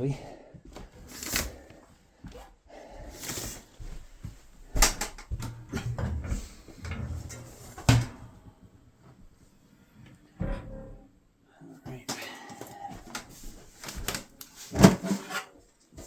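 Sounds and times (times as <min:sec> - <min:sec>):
rustling and shuffling: 0:00.6 - 0:11.0, 0:12.6 - 0:16.0.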